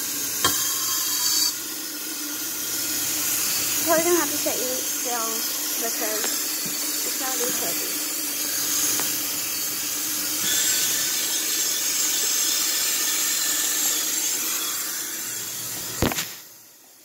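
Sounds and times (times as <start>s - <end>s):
tap water filling a pot: 0.0s - 14.5s.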